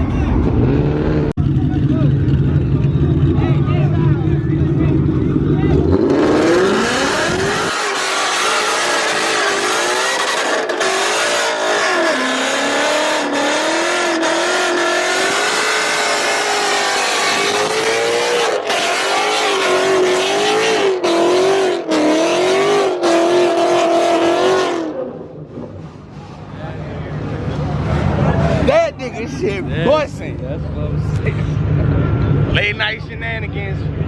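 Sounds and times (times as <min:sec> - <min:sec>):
car engine revving: 0:00.1 - 0:32.6.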